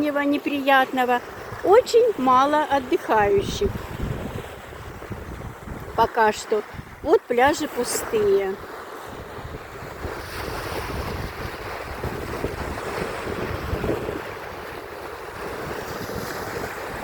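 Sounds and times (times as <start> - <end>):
sea waves washing onto beach: 0.0 - 17.0
wind rumbling on microphone: 1.0 - 17.0.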